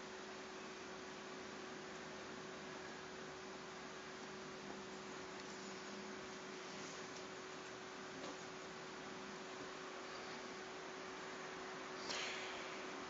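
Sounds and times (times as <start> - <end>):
constant hiss: 0.0 - 13.0
faint electrical hum: 0.0 - 13.0.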